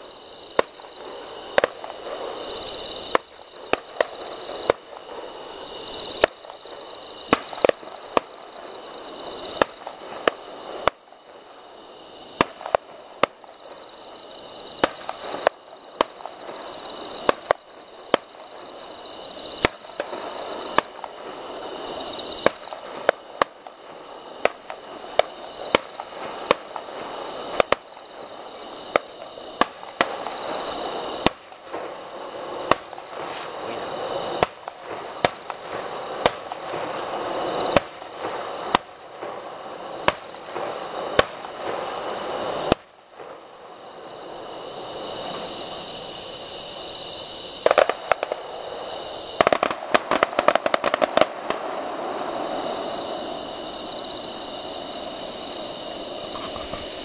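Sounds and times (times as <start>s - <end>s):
fireworks bursting with sharp bangs: 0.0s - 57.0s.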